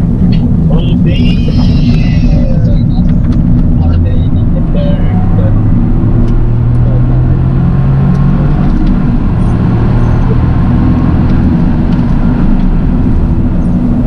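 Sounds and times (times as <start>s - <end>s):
car engine running while driving: 0.0s - 14.0s.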